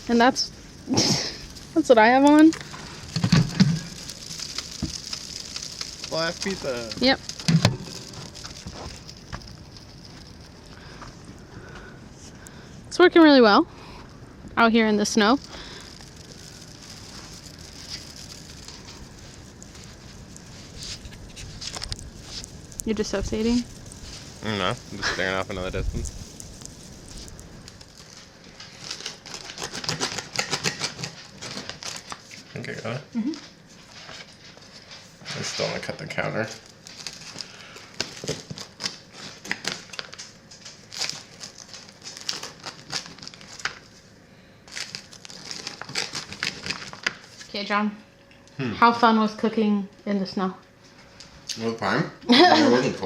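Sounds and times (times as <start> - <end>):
crinkling handling noise: 0.0 - 13.0, 13.8 - 47.6
wood fire crackling and hissing: 0.0 - 53.0.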